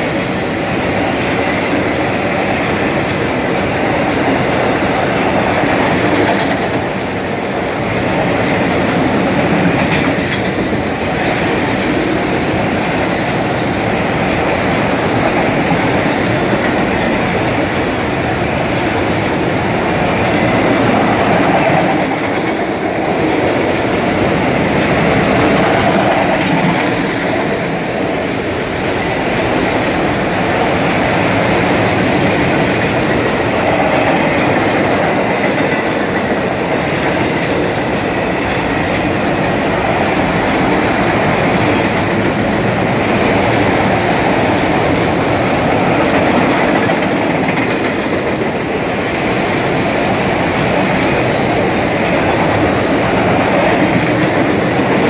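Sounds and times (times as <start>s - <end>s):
train wheels running on rails: 0.0s - 55.0s.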